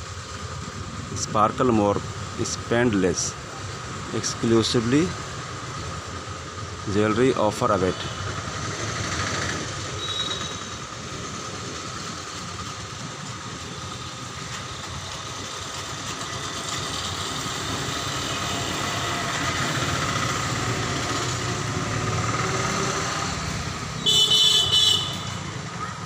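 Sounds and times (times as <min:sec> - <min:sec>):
traffic noise: 0:00.0 - 0:26.0
vehicle engine: 0:00.0 - 0:26.0.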